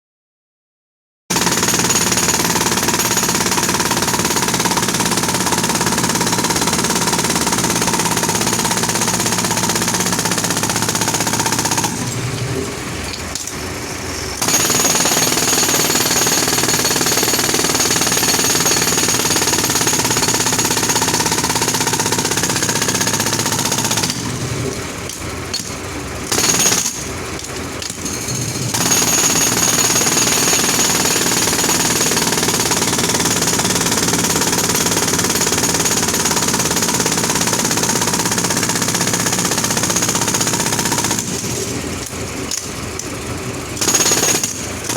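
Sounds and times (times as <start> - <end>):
road drill hammering: 1.3 - 44.9.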